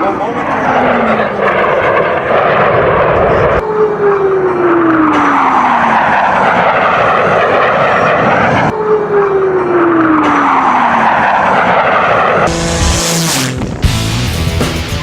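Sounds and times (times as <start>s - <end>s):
jet aircraft passing overhead: 0.0s - 14.0s.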